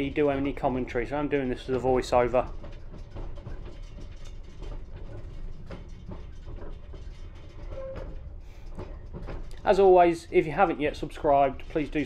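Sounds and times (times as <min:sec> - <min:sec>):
train rumbling over points: 0:00.0 - 0:12.0.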